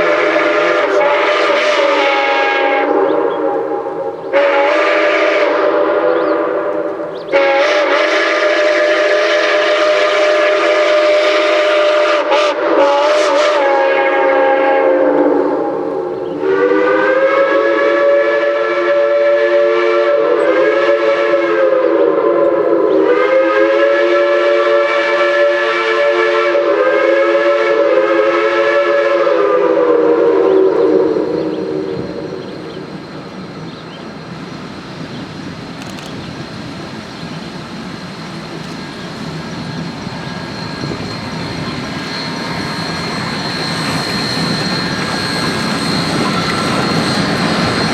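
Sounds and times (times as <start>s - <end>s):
steam locomotive chime whistle: 0.0s - 34.2s, 38.6s - 47.9s
locomotive rushing exhaust: 0.0s - 47.9s.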